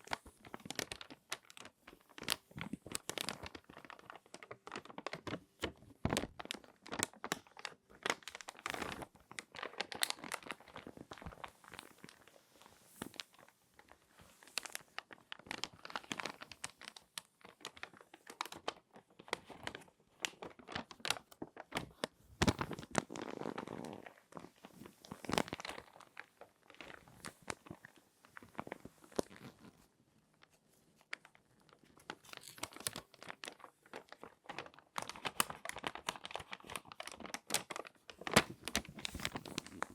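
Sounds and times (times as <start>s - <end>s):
magazine pages crinkling: 0.0s - 29.9s, 30.5s - 39.9s.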